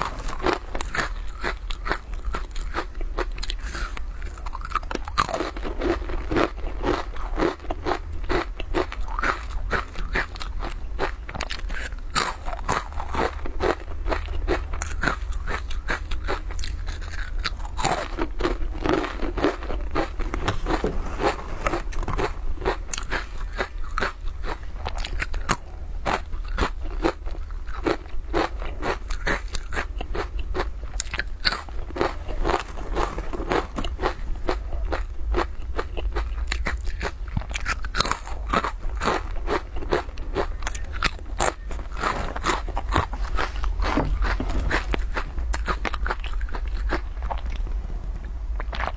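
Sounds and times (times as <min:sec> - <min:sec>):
crunching crispy crackers: 0:00.0 - 0:48.9
steady low hum: 0:00.0 - 0:48.9.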